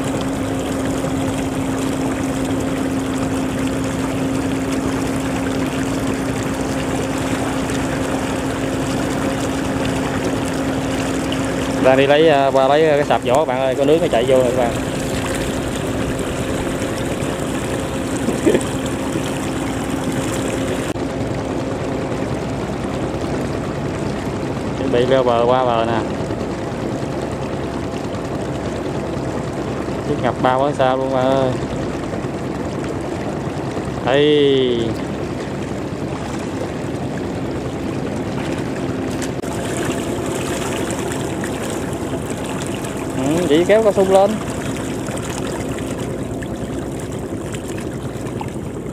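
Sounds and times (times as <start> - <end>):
floodwater rushing: 0.0 - 21.0, 22.3 - 48.9
faint tractor engine hum: 0.0 - 48.9.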